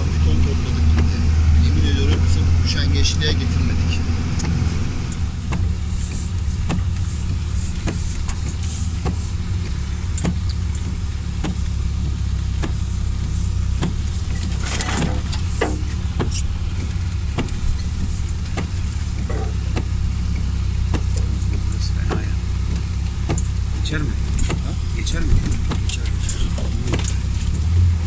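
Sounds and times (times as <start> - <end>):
car engine running at low speed: 0.0 - 28.0.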